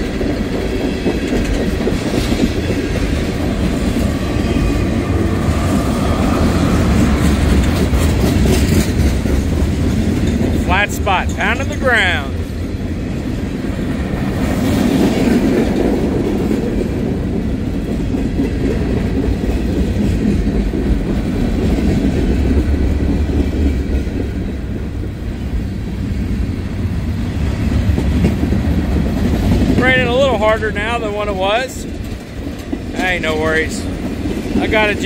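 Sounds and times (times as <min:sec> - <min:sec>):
freight train wheels clickety-clack: 0:00.0 - 0:35.0.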